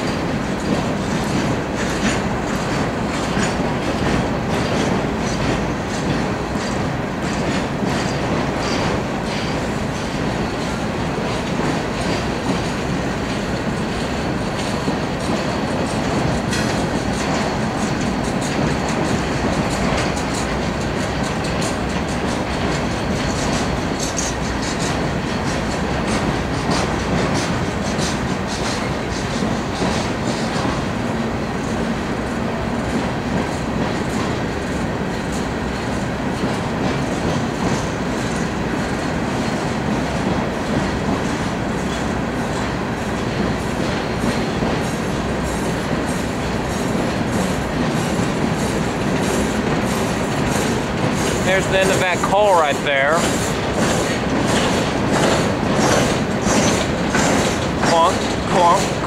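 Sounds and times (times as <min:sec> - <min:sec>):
train rolling rumble: 0:00.0 - 0:59.0
train wheel clacks: 0:00.0 - 0:59.0.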